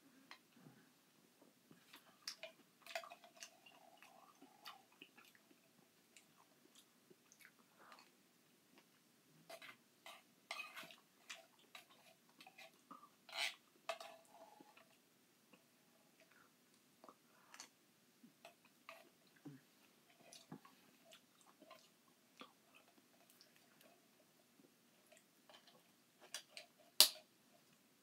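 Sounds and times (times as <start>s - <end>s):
quiet chewing: 1.7s - 27.8s.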